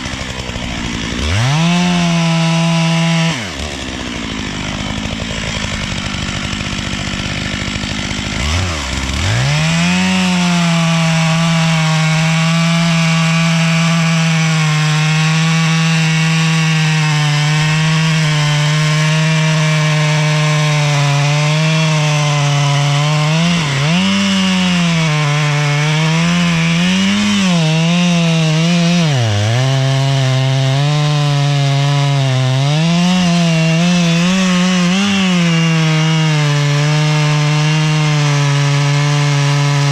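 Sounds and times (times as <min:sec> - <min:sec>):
chainsaw cutting into tree trunk: 0:00.0 - 0:39.9.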